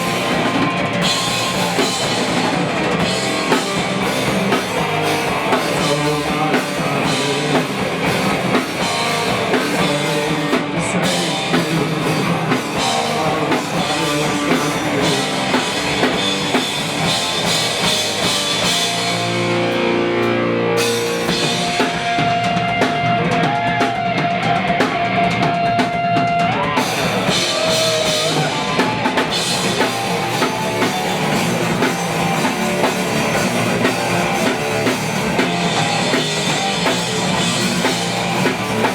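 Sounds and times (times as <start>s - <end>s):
guitar long bent note: 0.0s - 25.8s, 26.4s - 38.9s
rock band playing: 0.0s - 38.9s.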